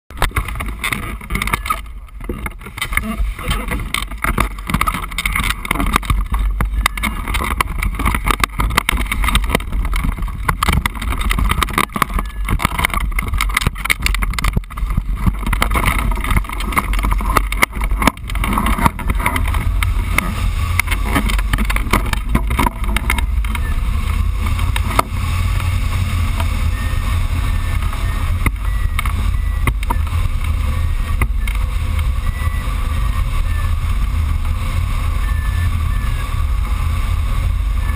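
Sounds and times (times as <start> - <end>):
crackles and knocks: 0.0 - 37.9
wind buffeting microphone: 0.1 - 37.9.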